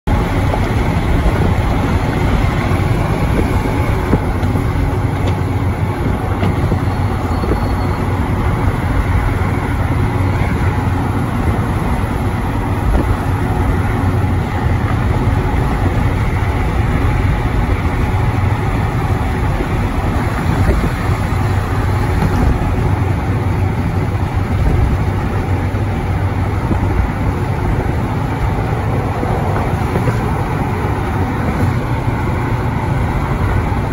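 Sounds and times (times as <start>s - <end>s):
car road noise: 0.0s - 33.9s
strong low hum: 0.1s - 33.9s.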